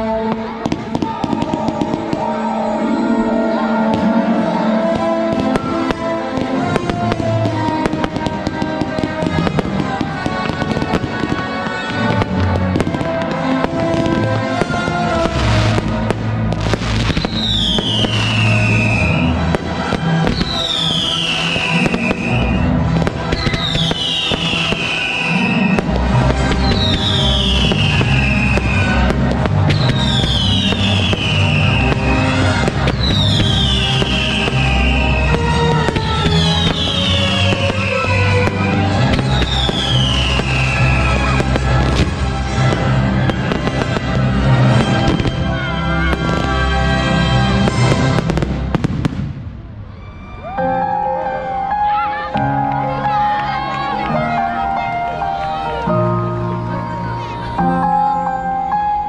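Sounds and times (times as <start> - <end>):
music with sustained tones: 0.0 - 49.2, 50.2 - 59.0
fireworks bangs and crackles: 0.0 - 59.0.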